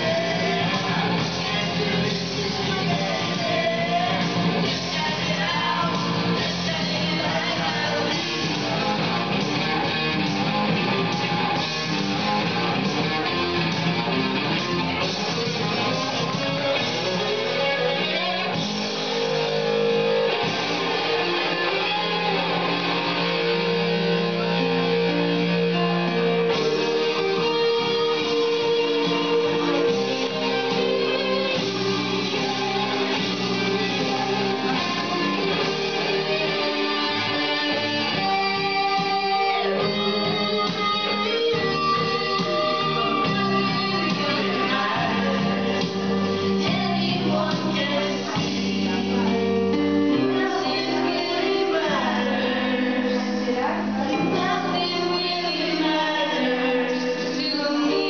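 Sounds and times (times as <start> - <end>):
young voices singing: 0.0 - 9.6, 14.2 - 49.5, 50.1 - 58.0
karaoke backing track with guitar: 0.0 - 58.0.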